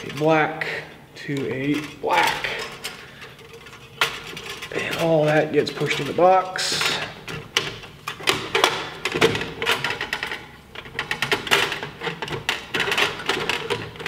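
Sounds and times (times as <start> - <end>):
wires scraping metal box: 0.0 - 14.0.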